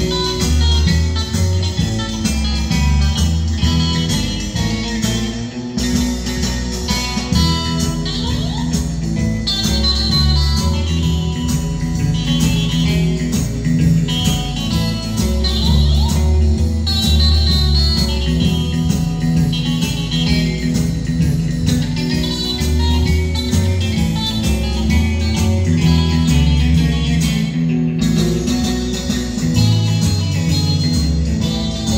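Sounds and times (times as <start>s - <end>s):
guitar music with bass line: 0.0s - 31.9s.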